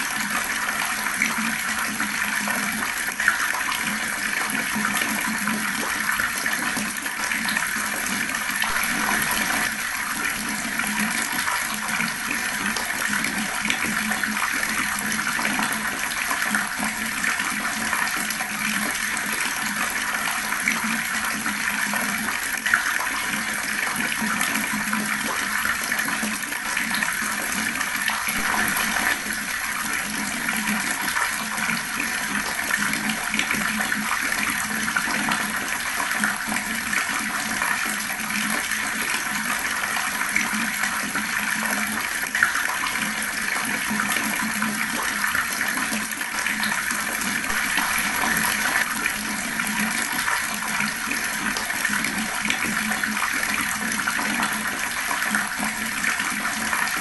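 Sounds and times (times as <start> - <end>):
water running from tap: 0.0 - 57.0.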